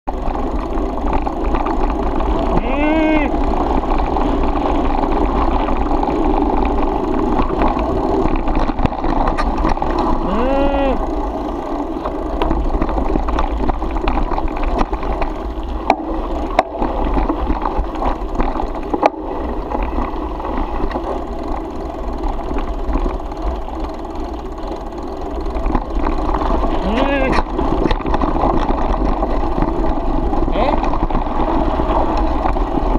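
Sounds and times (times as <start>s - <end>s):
bike clicks and rattles: 0.1s - 32.9s
tyres crunching on gravel: 0.1s - 32.9s
wind rumble on microphone: 0.1s - 32.9s.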